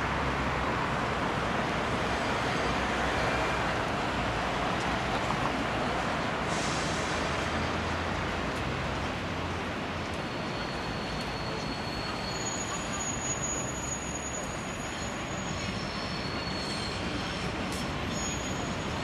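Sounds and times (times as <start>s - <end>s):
city traffic rush: 0.0s - 19.0s.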